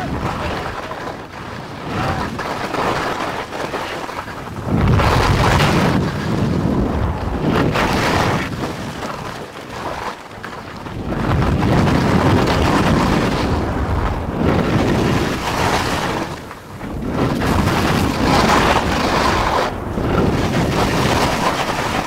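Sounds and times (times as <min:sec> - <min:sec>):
skis scraping over snow: 0:00.0 - 0:22.0
wind buffeting microphone: 0:00.0 - 0:22.0.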